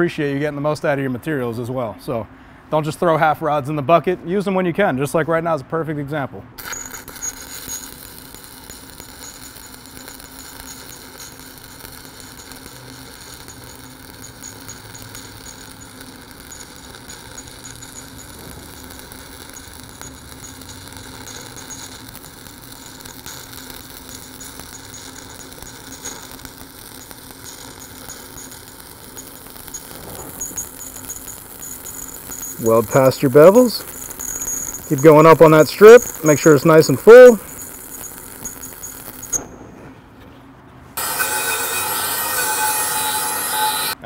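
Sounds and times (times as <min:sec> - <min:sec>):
welding arc crackling hiss: 0:06.6 - 0:39.6, 0:41.0 - 0:44.0.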